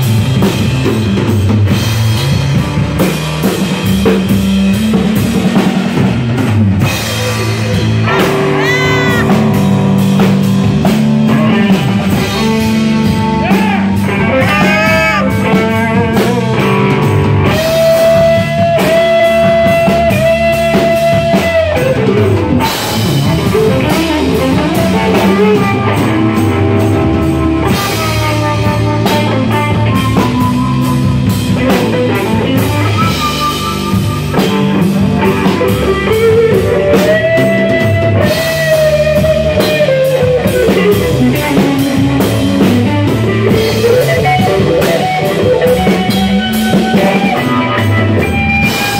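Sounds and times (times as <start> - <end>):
drums: 0.0 - 48.9
electric guitar lead bending notes: 0.0 - 48.9
rhythm guitar: 0.0 - 48.9.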